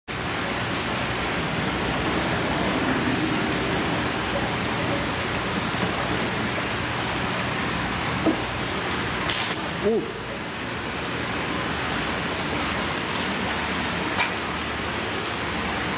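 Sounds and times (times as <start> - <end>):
running water in a tank: 0.1 - 15.9.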